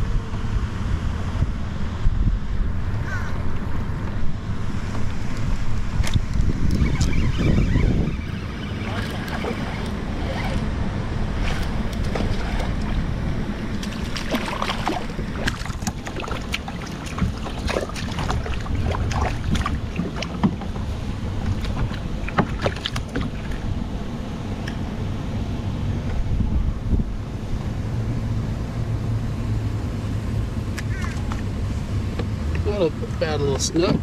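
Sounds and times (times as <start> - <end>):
wind buffeting microphone: 0.0 - 28.6.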